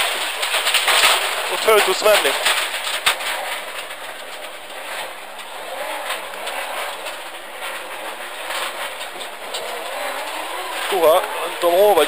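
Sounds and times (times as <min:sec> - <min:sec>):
car driving over rough ground: 0:00.0 - 0:12.0
car engine running: 0:00.0 - 0:12.0.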